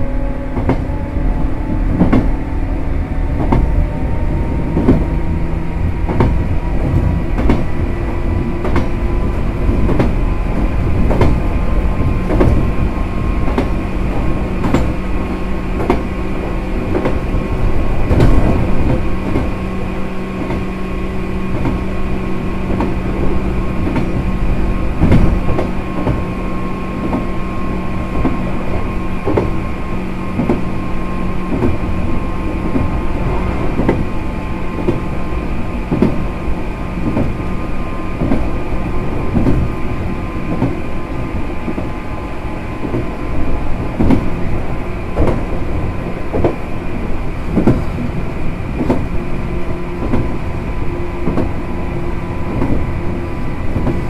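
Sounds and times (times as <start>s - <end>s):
train motors whining: 0.0s - 54.0s
wheels clacking over rail joints: 0.0s - 54.0s.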